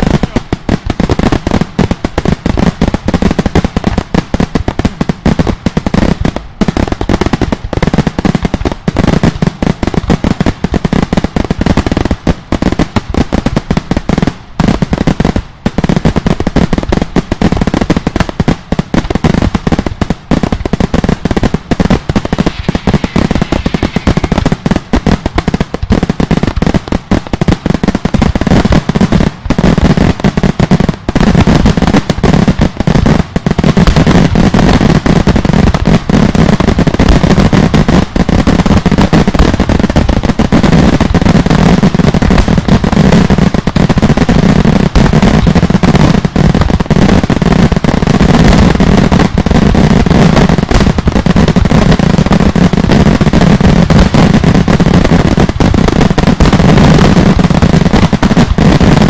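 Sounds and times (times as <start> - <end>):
firework bangs: 0.0 - 59.0.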